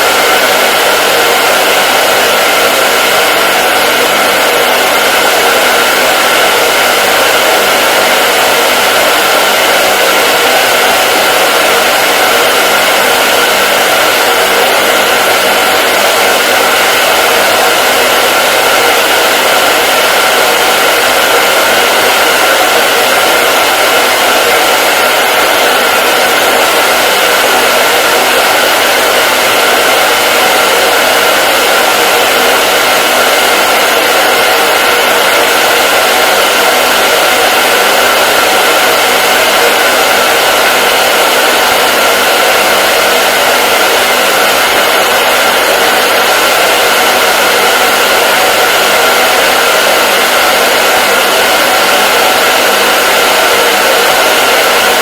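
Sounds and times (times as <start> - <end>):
hair dryer blowing air: 0.0 - 55.0.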